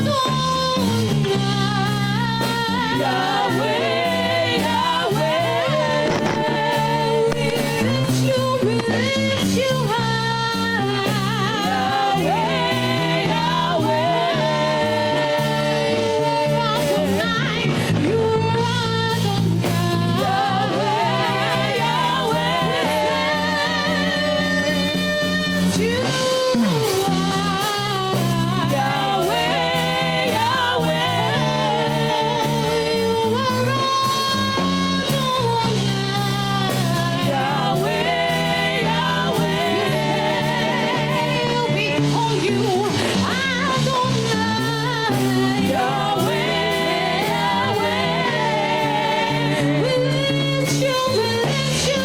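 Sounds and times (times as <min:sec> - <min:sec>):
gospel singing with band: 0:00.0 - 0:52.0.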